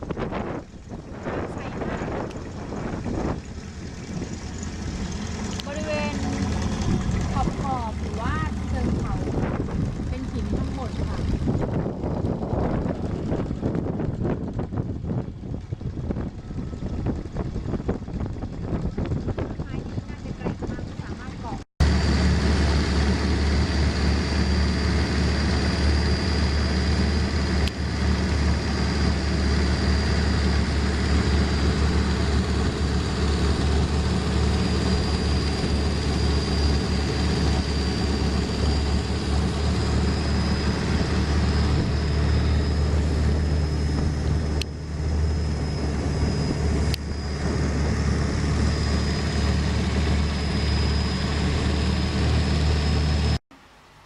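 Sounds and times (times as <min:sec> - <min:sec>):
boat engine drone: 0:00.0 - 0:54.0
high whine: 0:00.0 - 0:54.0
water noise: 0:00.0 - 0:54.0.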